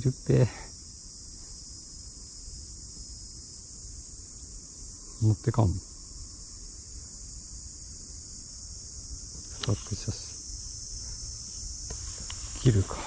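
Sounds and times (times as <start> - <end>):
insect chorus shrilling: 0.0 - 13.0.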